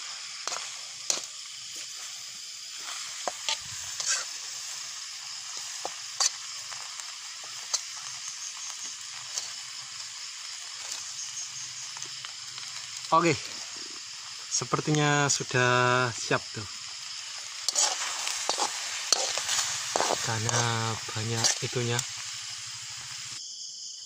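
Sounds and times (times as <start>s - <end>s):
wood fire crackling: 0.0s - 23.4s
vegetables sizzling in a wok: 0.0s - 23.9s.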